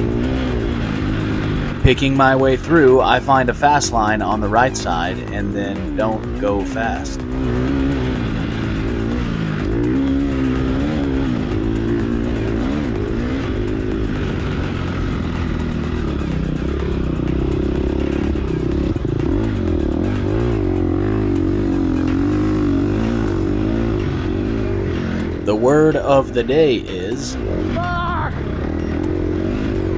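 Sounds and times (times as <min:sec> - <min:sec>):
dirt bike engine revving: 0:00.0 - 0:29.9.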